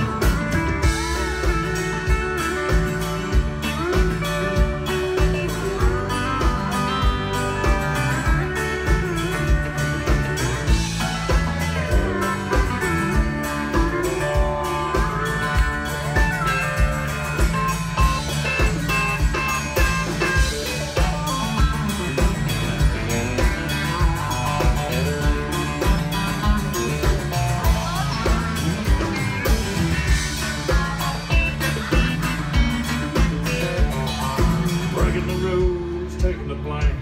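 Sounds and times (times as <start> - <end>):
bass guitar: 0.0 - 37.0
drum kit: 0.0 - 37.0
electric and acoustic guitars: 0.0 - 37.0
pedal steel guitar: 0.0 - 37.0.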